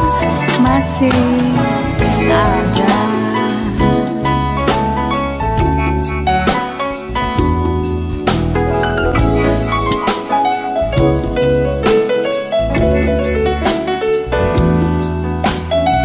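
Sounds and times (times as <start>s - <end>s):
bass: 0.0s - 16.0s
drum kit: 0.0s - 16.0s
piano melody: 0.0s - 16.0s.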